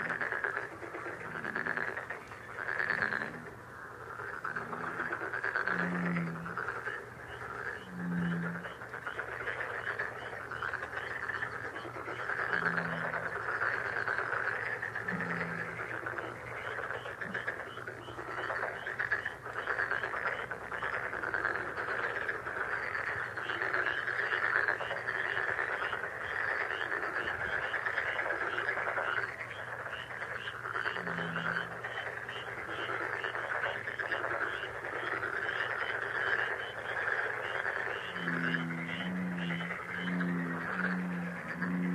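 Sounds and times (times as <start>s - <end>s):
chorus of frogs calling: 0.0s - 41.9s
deep short croak: 0.0s - 41.9s.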